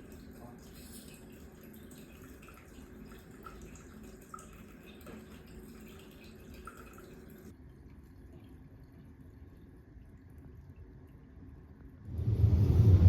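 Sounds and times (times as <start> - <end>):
water drips: 0.0 - 12.0
low room hum: 0.0 - 13.0.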